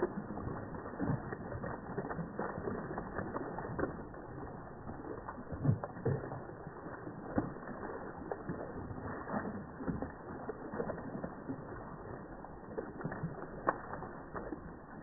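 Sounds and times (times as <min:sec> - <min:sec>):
fish splashing in water: 0:00.0 - 0:15.0.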